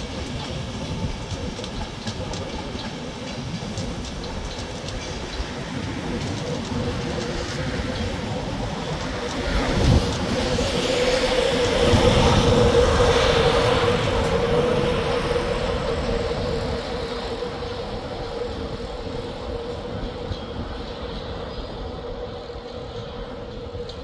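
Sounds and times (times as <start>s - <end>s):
train passing: 0.0s - 24.0s.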